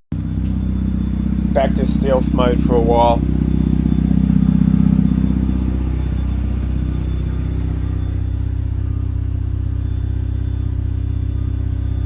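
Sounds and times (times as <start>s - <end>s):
rotary engine droning: 0.1s - 12.0s.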